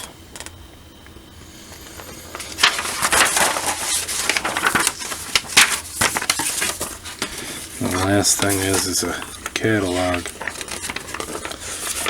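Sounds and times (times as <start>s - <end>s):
paper crinkling and rustling: 1.8s - 12.0s.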